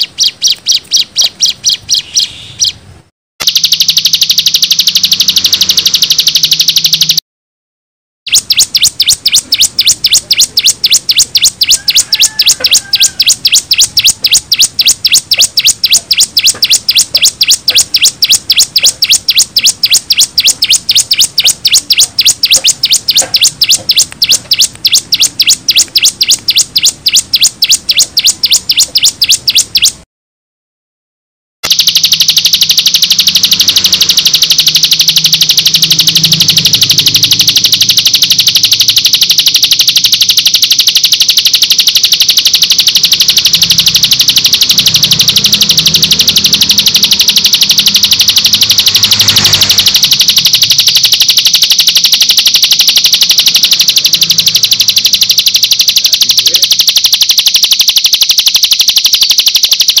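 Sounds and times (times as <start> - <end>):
bird singing high trill: 0.0 - 2.8, 3.4 - 7.2, 8.3 - 30.0, 31.7 - 60.0.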